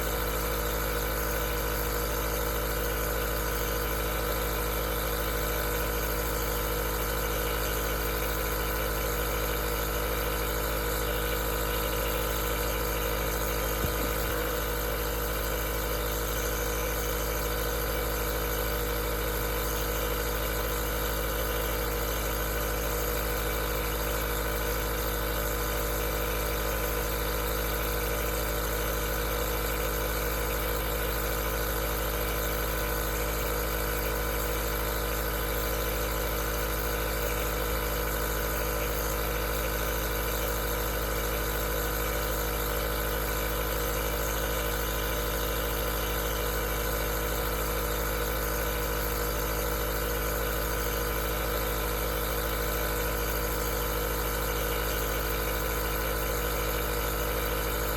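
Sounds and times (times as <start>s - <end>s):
nebulizer compressor humming: 0.0s - 57.9s.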